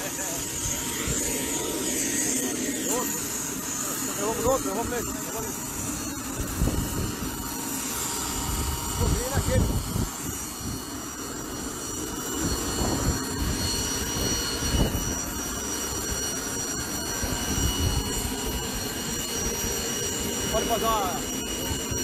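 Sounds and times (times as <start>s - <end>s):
helicopter turbine engine whine: 0.0s - 22.0s.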